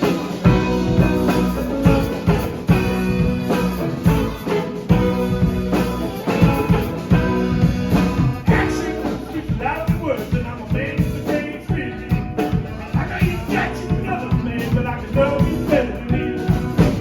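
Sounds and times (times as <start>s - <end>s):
bass: 0.0s - 17.0s
drum kit beat: 0.0s - 17.0s
guitar chords: 0.0s - 17.0s.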